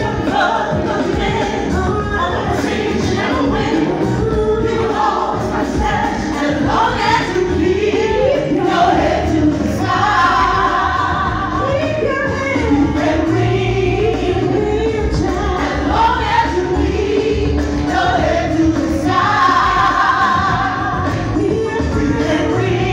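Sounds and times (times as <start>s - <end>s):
gospel choir singing: 0.0s - 22.9s
woman singing lead: 0.0s - 22.9s.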